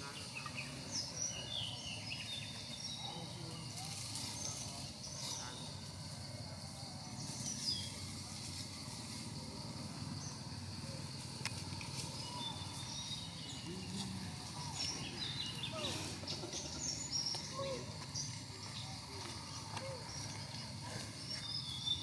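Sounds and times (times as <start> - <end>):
small birds chirping: 0.0 - 6.2, 9.6 - 22.0.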